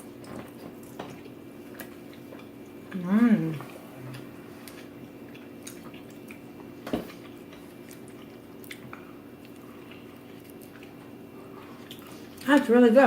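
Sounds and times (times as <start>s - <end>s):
chewing and wet mouth sounds: 0.0s - 12.7s
steady low hum: 0.0s - 13.0s.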